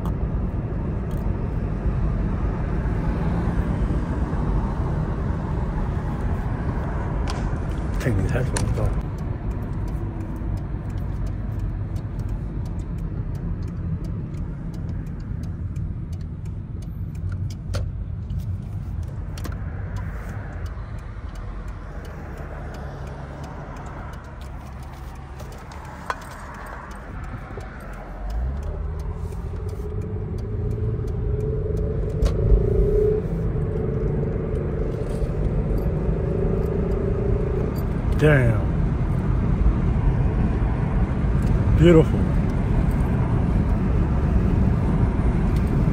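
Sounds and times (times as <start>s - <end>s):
car engine from inside cabin: 0.0s - 45.9s.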